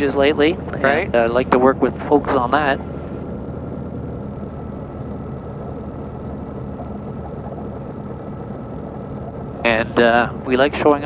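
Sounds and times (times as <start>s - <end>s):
faint steady whine: 0.0s - 11.0s
light aircraft engine and propeller: 0.0s - 11.0s.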